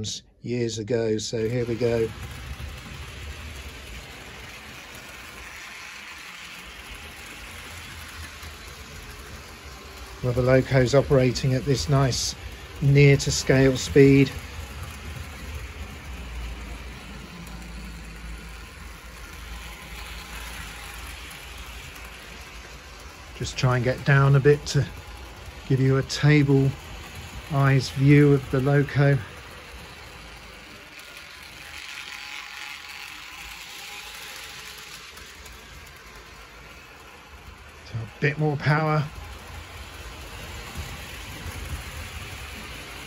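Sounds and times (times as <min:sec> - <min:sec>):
metal wheels rolling on rails: 0:00.0 - 0:43.0
electric motor hum: 0:01.2 - 0:43.0.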